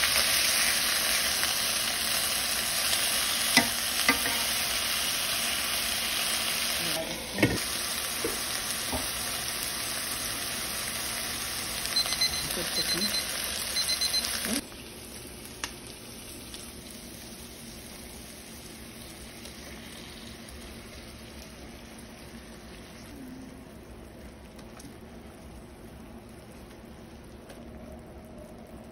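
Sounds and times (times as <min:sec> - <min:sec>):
chicken sizzling in oil: 0:00.0 - 0:23.3.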